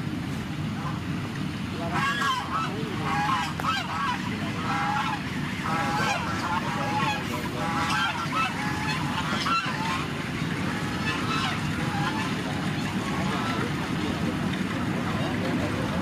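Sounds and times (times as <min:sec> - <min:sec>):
birds calling: 0:01.8 - 0:16.0.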